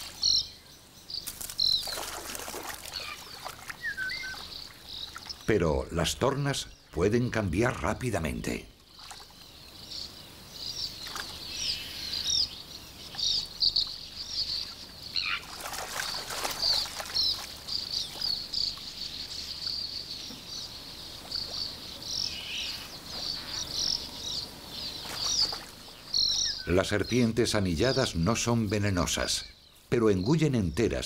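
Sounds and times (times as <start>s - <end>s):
small bird chirping and trilling: 0.0s - 5.9s, 8.7s - 30.8s.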